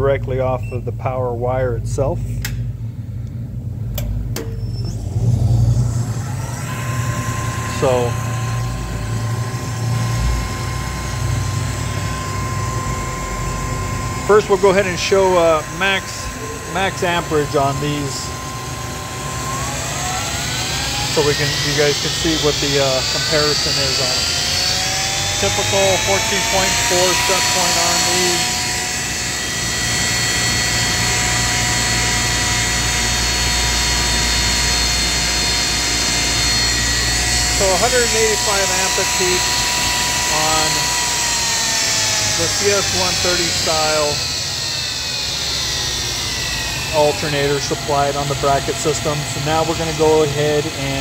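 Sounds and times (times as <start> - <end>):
alternator test bench humming: 0.0 - 51.0
high whine: 0.0 - 51.0
rush of fan air: 4.9 - 51.0.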